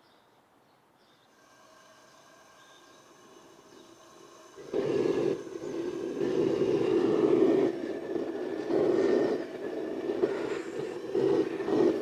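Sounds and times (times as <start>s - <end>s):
propane burner roaring: 1.4s - 12.0s.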